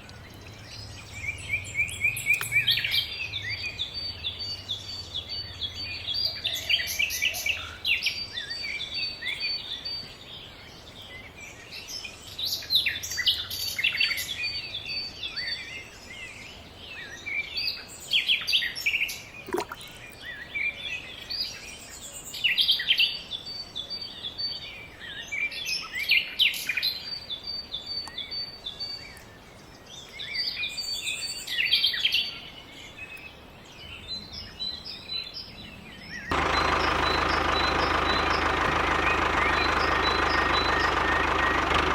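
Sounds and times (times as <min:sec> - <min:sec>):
birds chirping and singing: 0:00.0 - 0:41.9.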